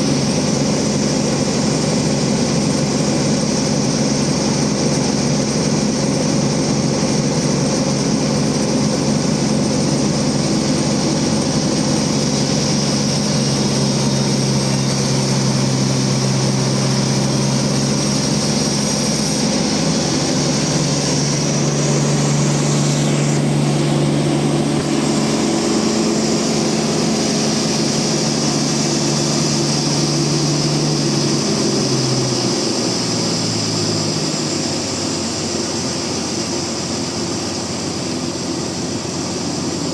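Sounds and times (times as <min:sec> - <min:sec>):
bandsaw sawmill engine drone: 0:00.0 - 0:39.9.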